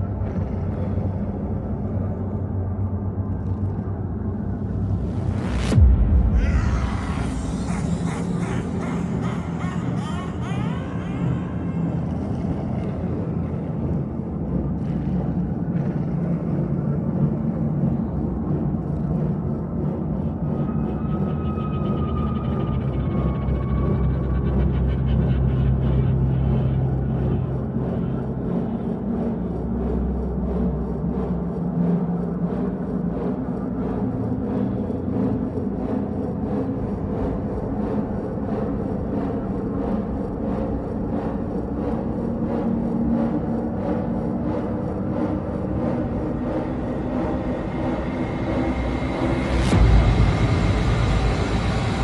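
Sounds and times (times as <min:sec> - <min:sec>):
low rumbling drone: 0:00.0 - 0:52.0.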